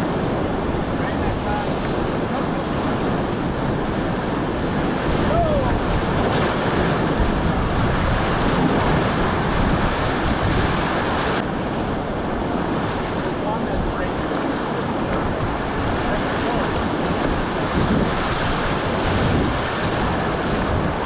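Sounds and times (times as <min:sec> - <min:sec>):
whitewater rapids rushing and splashing: 0:00.0 - 0:21.0
wind buffeting microphone: 0:00.0 - 0:21.0.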